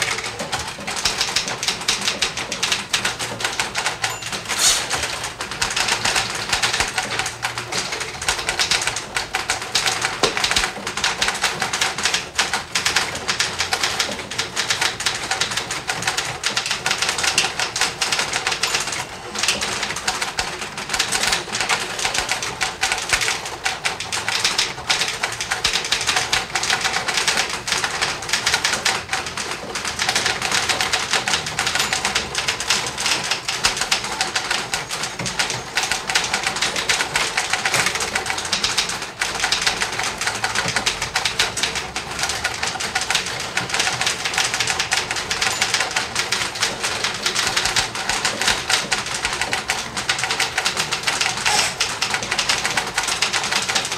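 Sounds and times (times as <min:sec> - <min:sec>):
typewriters typing: 0:00.0 - 0:53.9.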